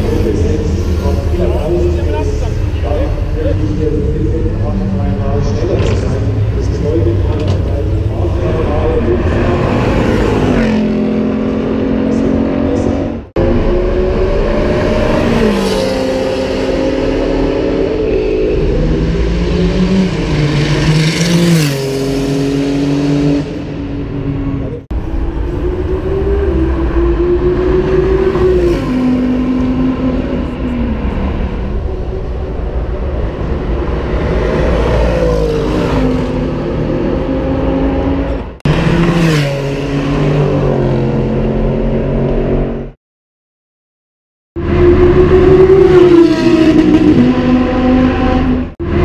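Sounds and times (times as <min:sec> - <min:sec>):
sports car engines passing at full throttle: 0:00.0 - 0:43.0, 0:44.6 - 0:49.0.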